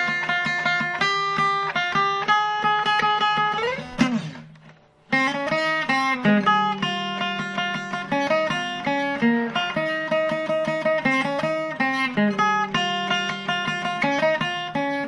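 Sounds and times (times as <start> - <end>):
plucked guitar-like ringtone melody: 0.0 - 15.0.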